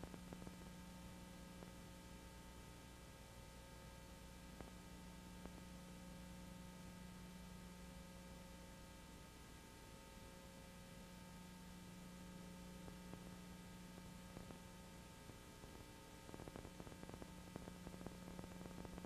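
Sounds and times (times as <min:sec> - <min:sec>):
faint hum with hiss: 0:00.0 - 0:19.0.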